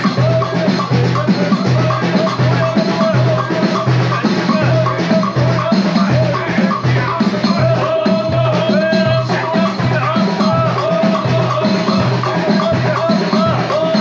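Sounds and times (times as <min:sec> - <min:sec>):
dense rattling percussion: 0:00.0 - 0:14.0.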